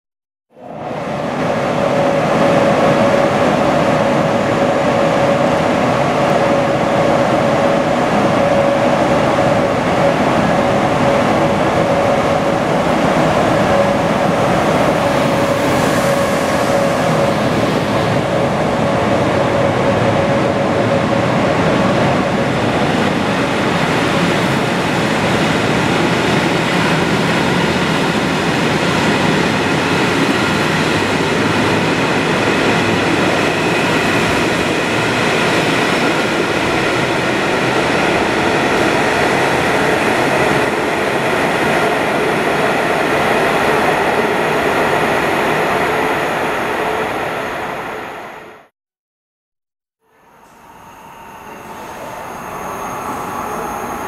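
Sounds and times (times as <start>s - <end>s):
train rumbling past: 0.6s - 48.7s, 50.1s - 54.0s.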